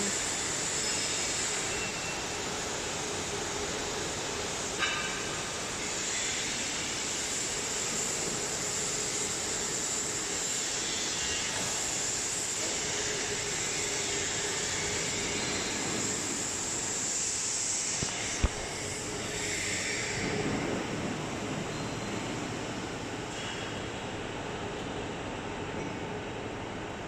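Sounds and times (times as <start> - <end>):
machine hissing: 0.0 - 23.8.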